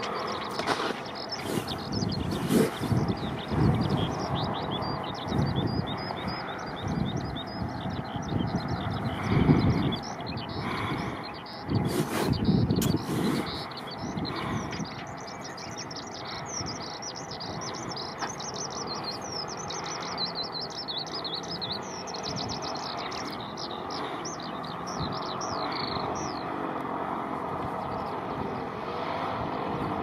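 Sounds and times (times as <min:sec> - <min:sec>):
songbird chirping: 0:00.0 - 0:29.8
steady background rush: 0:00.0 - 0:30.0.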